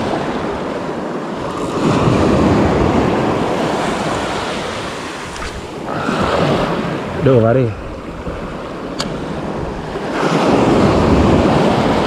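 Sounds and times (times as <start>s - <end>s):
wind buffeting microphone: 0.0s - 12.0s
small waves washing over rocks: 1.3s - 12.0s.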